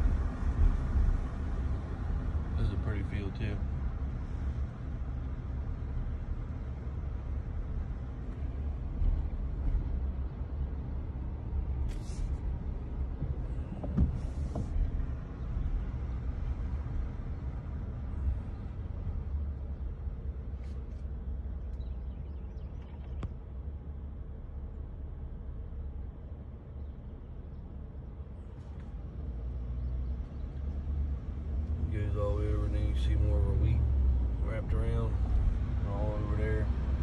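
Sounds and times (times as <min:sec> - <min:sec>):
vehicle engine and tyre rumble: 0:00.0 - 0:37.0.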